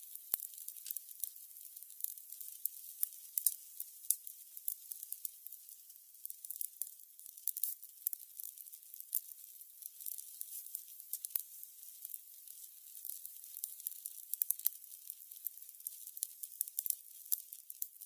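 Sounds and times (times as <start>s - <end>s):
candles crackling: 0.0s - 18.0s.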